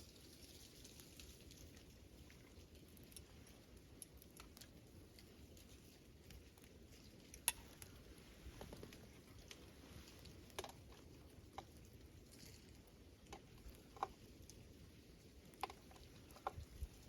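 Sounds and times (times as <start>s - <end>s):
low steady hum: 0.0s - 17.0s
wood fire crackling: 0.0s - 17.0s.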